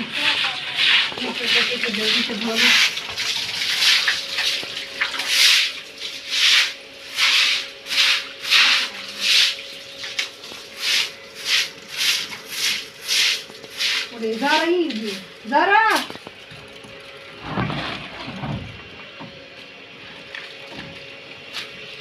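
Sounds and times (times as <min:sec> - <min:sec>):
broom scrubbing wet concrete floor: 0:00.0 - 0:16.3, 0:17.4 - 0:18.8.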